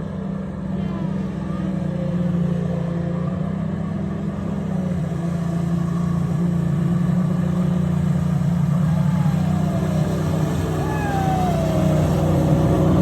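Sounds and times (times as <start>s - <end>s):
watercraft engine running: 0.0s - 13.0s.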